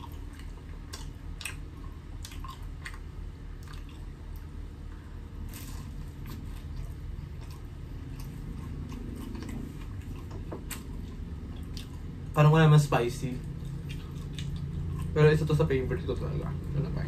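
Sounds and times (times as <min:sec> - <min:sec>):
crunchy crust chewing: 0:00.0 - 0:12.4, 0:13.2 - 0:15.7.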